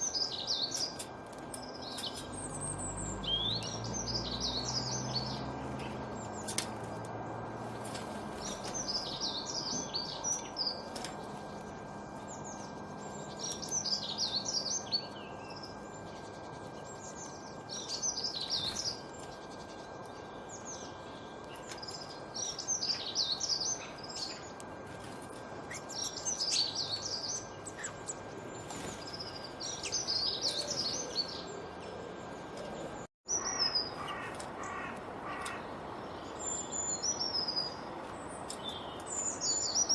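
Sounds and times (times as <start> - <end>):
songbird high warbling: 1.6 - 6.6, 8.4 - 11.4, 12.2 - 24.6, 25.6 - 39.9.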